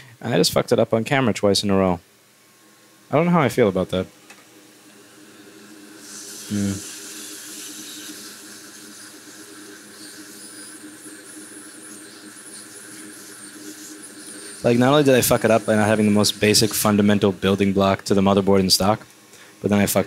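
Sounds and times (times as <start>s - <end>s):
hot air blower hissing: 3.1s - 20.0s.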